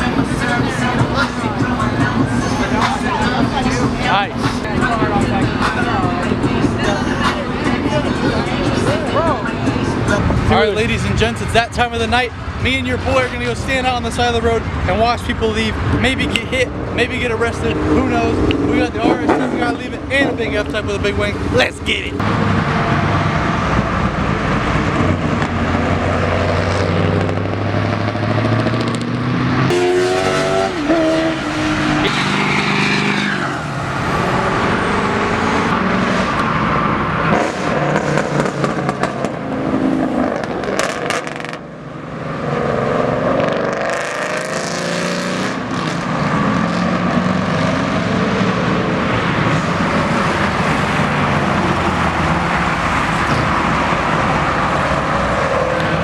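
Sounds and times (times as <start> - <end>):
car engines revving and driving past: 0.0 - 56.0.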